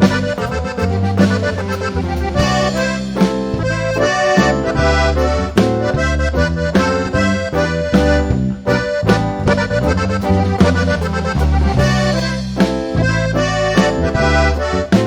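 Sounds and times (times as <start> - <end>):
drum beat: 0.0 - 15.0
live band playing instrumental: 0.0 - 15.0.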